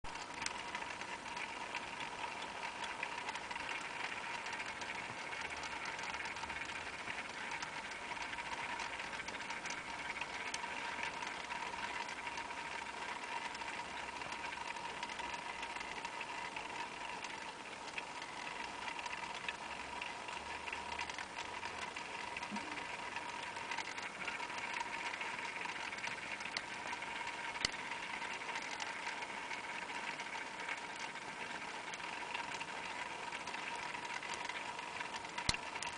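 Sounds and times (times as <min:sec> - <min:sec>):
faint ticks: 0:00.1 - 0:35.9.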